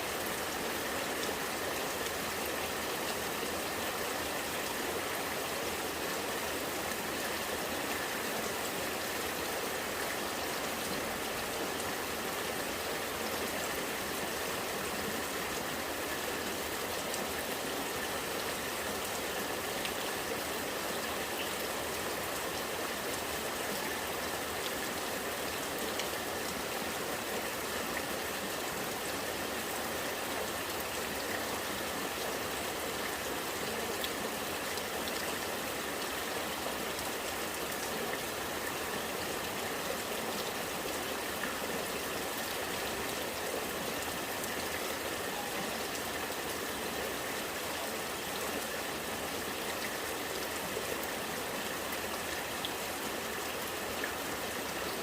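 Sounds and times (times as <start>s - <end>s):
rain falling: 0.0s - 55.0s
rainwater running and gurgling: 0.0s - 55.0s.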